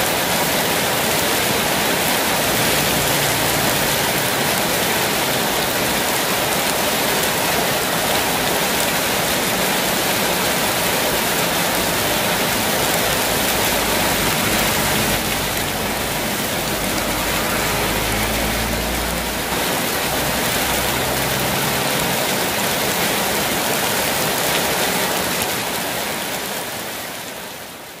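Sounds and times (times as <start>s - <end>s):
heavy rain on street: 0.0s - 28.0s
vehicle passing on wet road: 0.0s - 28.0s.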